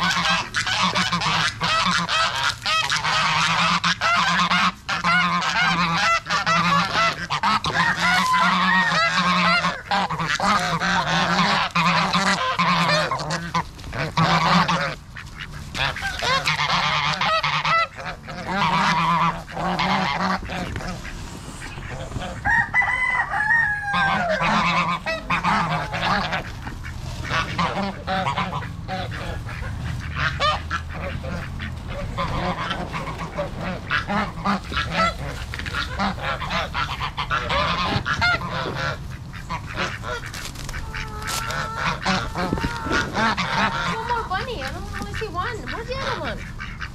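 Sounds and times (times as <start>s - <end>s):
ducks quacking: 0.0s - 46.9s
geese honking: 0.0s - 46.9s
leaves rustling and crackling: 0.0s - 46.9s.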